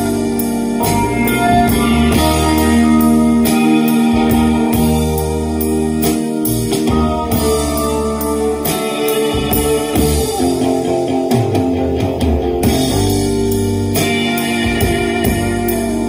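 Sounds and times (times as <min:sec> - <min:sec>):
blues-rock song through speakers: 0:00.0 - 0:16.0.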